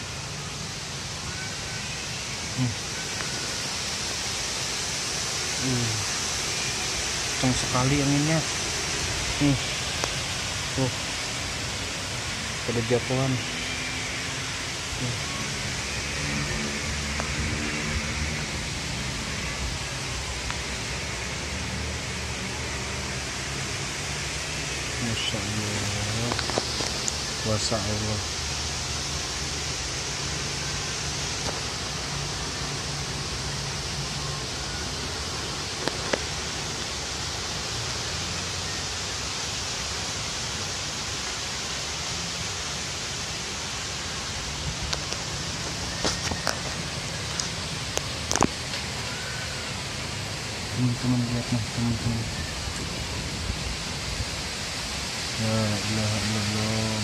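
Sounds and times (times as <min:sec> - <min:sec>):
wind rushing through trees: 0:00.0 - 0:57.0.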